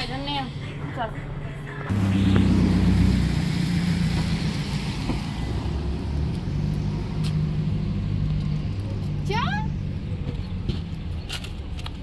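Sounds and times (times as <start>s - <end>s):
street traffic hum: 0.0s - 12.0s.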